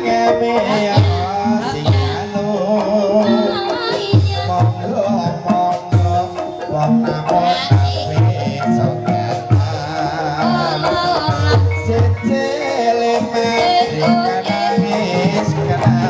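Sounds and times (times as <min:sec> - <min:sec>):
rattling percussion strokes: 0:00.0 - 0:16.0
ringing metallophone tones: 0:00.0 - 0:16.0
wavering melody line: 0:00.0 - 0:16.0.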